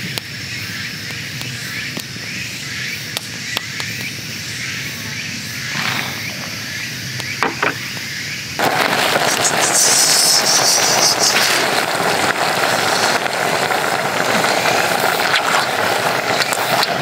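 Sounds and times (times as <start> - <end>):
campfire crackling and popping: 0.0 - 17.0
pot boiling hard: 0.0 - 17.0.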